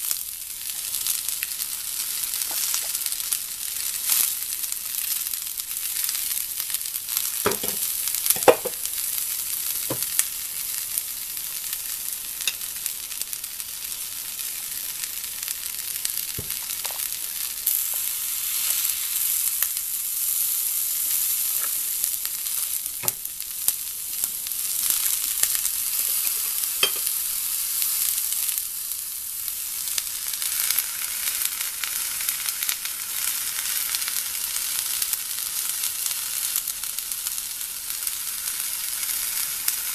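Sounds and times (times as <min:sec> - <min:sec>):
vegetables sizzling on griddle: 0:00.0 - 0:39.9.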